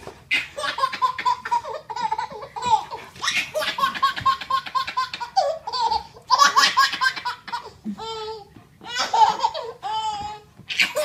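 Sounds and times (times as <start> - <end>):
baby laughing: 0.3 - 11.0.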